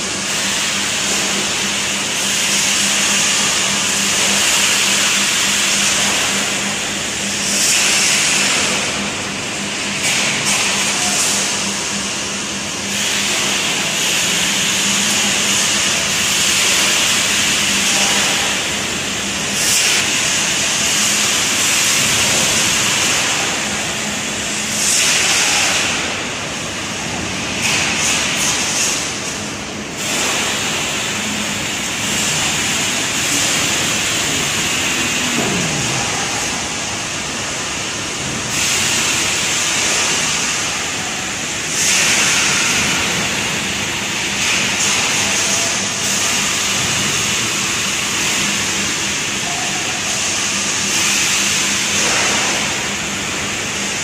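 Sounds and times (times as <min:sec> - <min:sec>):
industrial machinery noise: 0:00.0 - 0:54.0.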